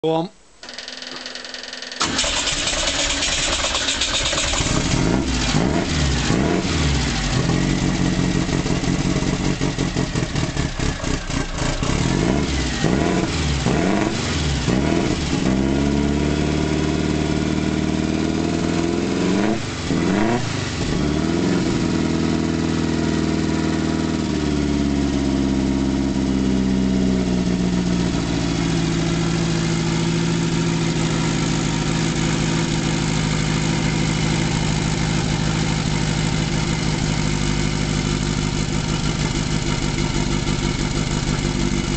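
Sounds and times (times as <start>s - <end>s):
car engine revving and idling: 2.0s - 41.9s.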